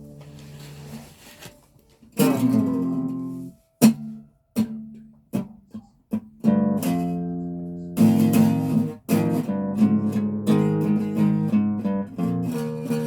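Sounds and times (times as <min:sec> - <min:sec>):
guitar strumming chords: 0:00.0 - 0:01.4, 0:02.1 - 0:05.6, 0:06.2 - 0:13.0.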